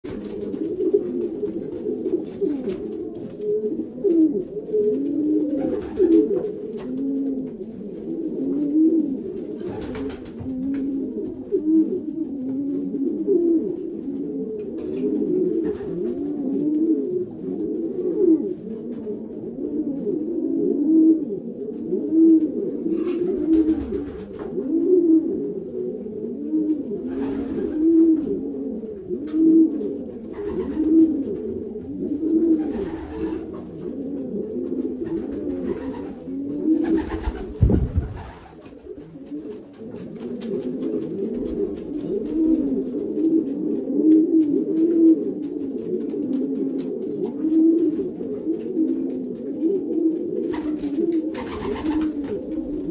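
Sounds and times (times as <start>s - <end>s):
pigeons cooing: 0.0s - 52.9s.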